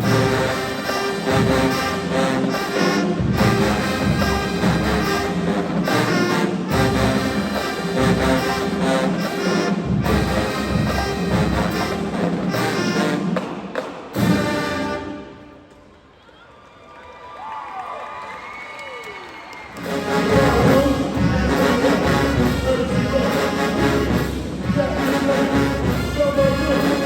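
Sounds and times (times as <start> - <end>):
marching band brass and drums: 0.0 - 16.0, 19.7 - 27.0.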